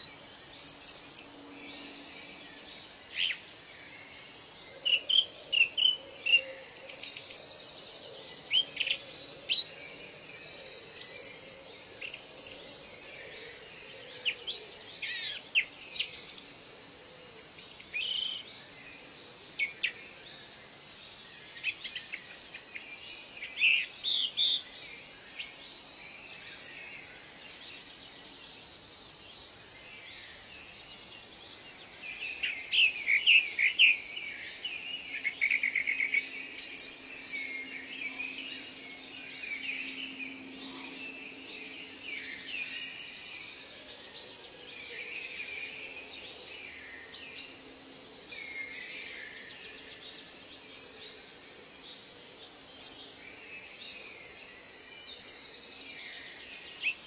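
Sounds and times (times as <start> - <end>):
background hiss: 0.0 - 57.0
birds chirping and trilling: 0.0 - 57.0.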